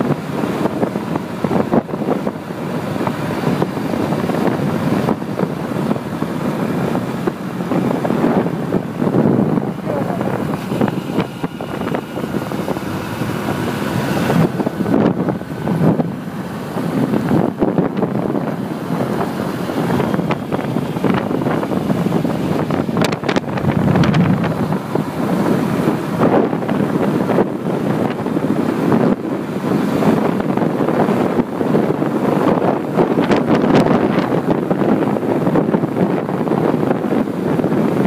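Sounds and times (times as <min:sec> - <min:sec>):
vehicle running and road noise: 0:00.0 - 0:38.0
wind buffeting microphone: 0:00.0 - 0:38.0.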